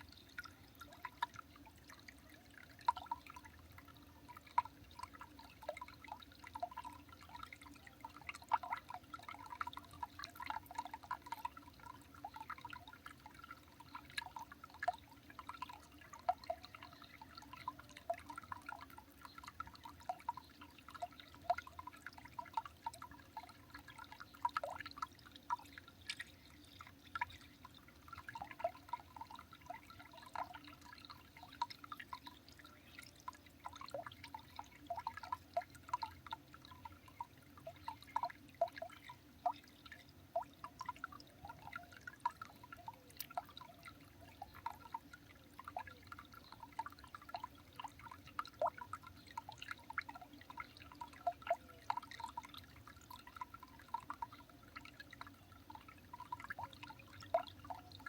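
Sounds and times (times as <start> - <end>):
water dripping: 0.0 - 58.0.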